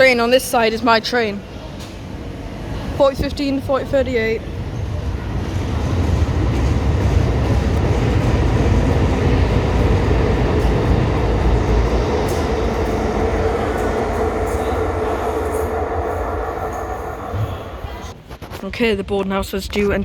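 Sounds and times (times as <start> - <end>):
train rumbling with motor hum: 0.0 - 18.2.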